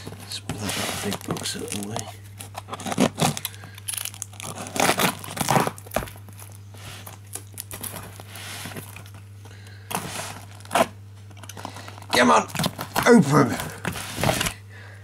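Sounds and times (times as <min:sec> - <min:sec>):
cardboard crinkling and tearing: 0:00.0 - 0:09.2, 0:09.9 - 0:11.0, 0:11.6 - 0:14.6
packaging rustling: 0:00.0 - 0:14.6.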